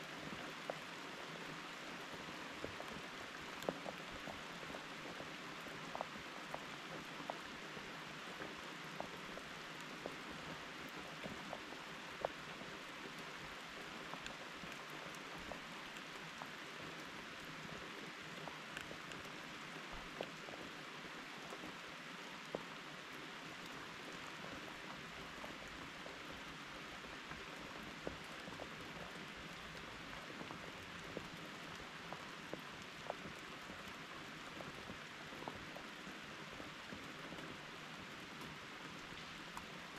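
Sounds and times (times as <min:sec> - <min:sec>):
raindrops ticking close by: 0:00.0 - 0:39.9
steady rain hiss: 0:00.0 - 0:39.9.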